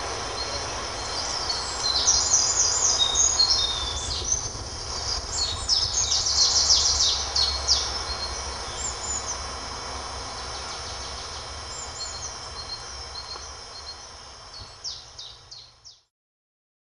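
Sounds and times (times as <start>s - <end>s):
bird chirps: 0.0s - 9.5s, 10.3s - 16.1s
low steady rumble: 0.0s - 15.9s.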